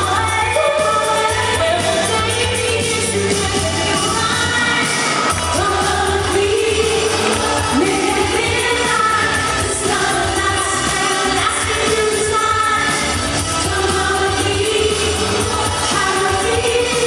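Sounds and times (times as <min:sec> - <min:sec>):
dance backing track: 0:00.0 - 0:17.0
female vocal group singing: 0:00.0 - 0:17.0.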